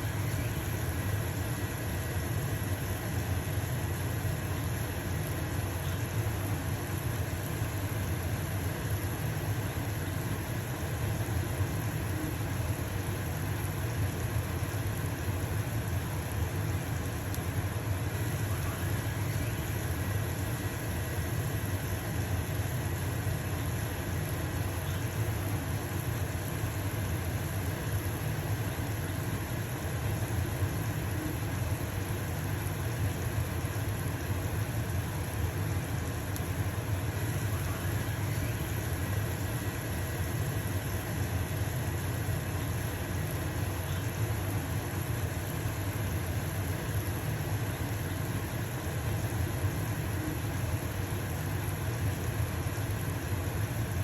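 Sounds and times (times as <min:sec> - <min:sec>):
exhaust fan humming: 0:00.0 - 0:54.0.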